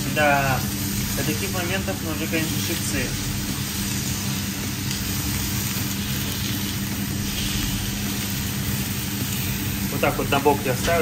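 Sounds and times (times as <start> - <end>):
range hood fan humming: 0.0 - 11.0
steaks sizzling in a frying pan: 0.0 - 11.0.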